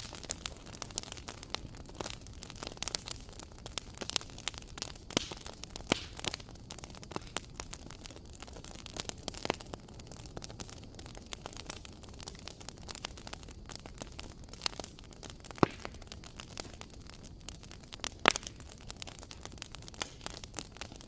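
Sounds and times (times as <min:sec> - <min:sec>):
fire crackling: 0:00.0 - 0:21.0.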